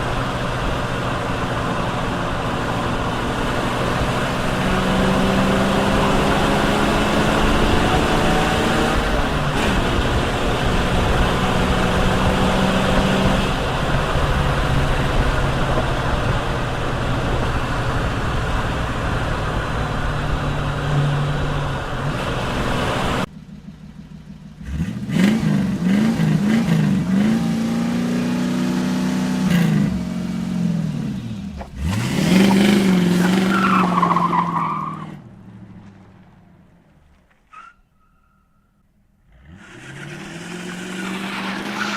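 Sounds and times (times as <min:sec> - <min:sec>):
car engine running under load: 0:00.0 - 0:33.1, 0:35.2 - 0:37.5
car engine revving: 0:00.0 - 0:37.2, 0:39.1 - 0:41.9.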